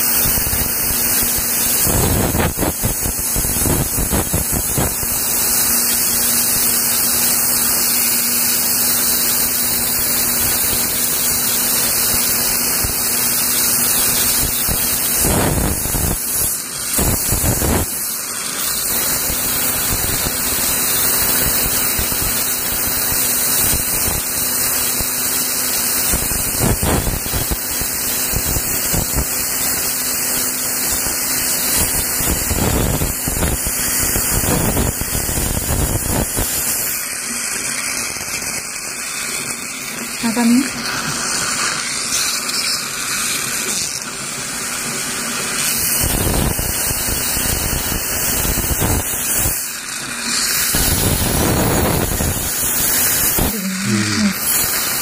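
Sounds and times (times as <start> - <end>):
air polisher hissing: 0.0 - 55.0.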